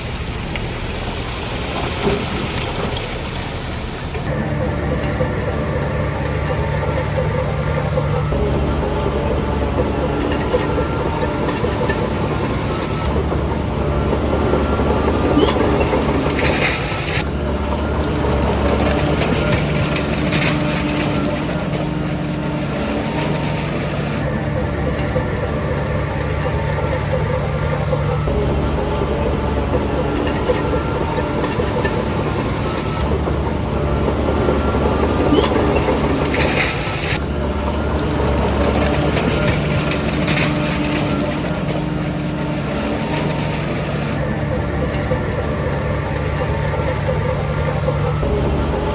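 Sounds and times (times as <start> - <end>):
bulldozer diesel engine running: 0.0 - 48.9
clatter: 0.0 - 48.9.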